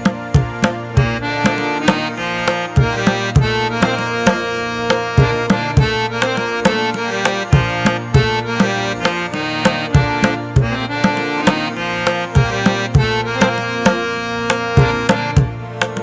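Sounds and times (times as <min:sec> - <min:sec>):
sustained melodic notes: 0:00.0 - 0:16.0.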